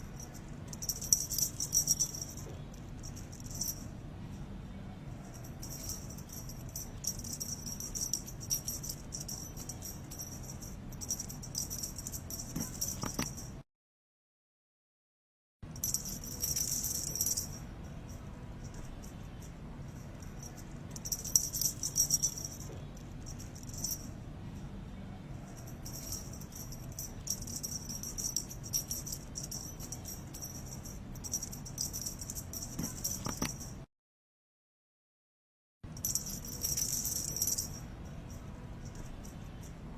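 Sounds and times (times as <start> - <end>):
small bells jingling: 0.0 - 3.9, 5.2 - 13.6, 15.8 - 24.2, 25.4 - 33.8, 35.9 - 39.8
low background hum: 0.0 - 13.6, 15.6 - 33.9, 35.9 - 39.9.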